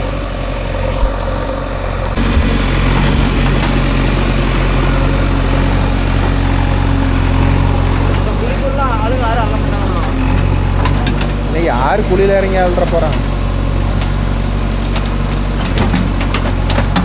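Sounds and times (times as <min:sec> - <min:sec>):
heavy diesel engine revving: 0:00.0 - 0:17.0.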